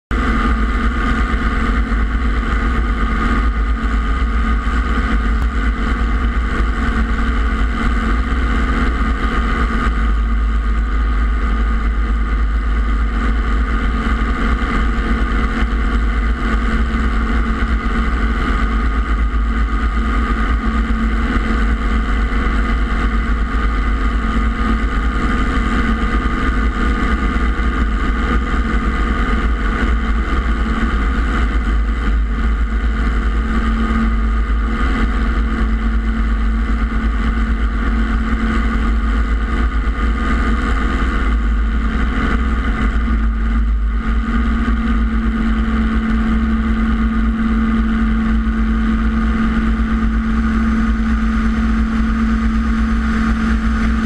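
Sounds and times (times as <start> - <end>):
helicopter engine and rotor drone: 0.1 - 54.0
steady whine: 0.1 - 54.0.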